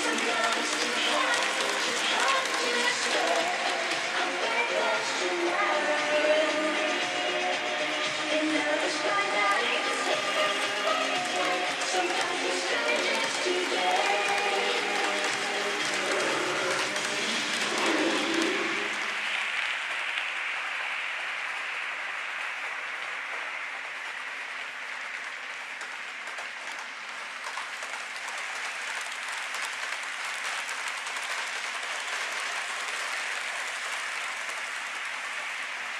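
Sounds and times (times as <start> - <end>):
train wheels rushing on rails: 0.0 - 35.9.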